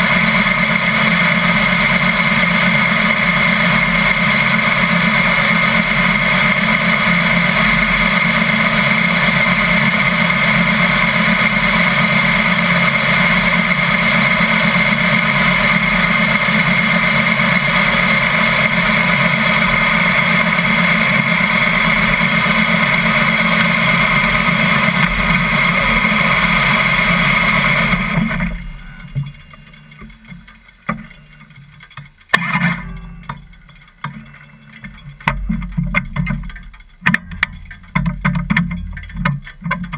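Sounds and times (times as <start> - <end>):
motorcycle engine idling: 0.0 - 39.9
scattered clicks and knocks: 0.0 - 39.9.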